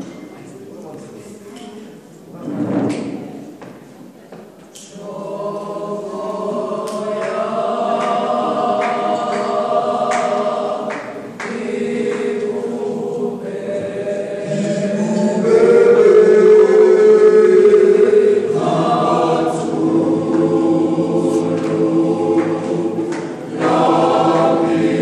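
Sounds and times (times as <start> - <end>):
mixed choir singing a cappella: 4.8 - 25.0.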